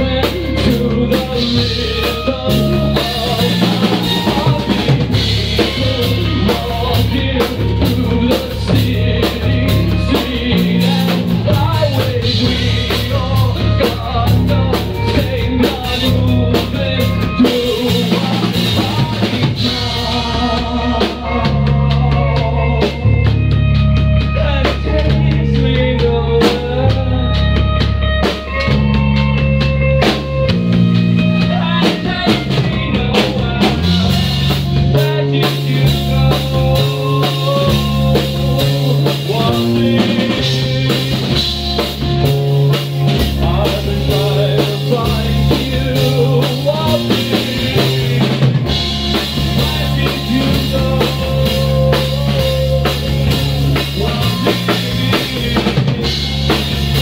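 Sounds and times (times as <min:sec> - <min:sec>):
drum kit beat: 0:00.0 - 0:57.0
live band playing: 0:00.0 - 0:57.0
pulsing bass line: 0:00.0 - 0:57.0.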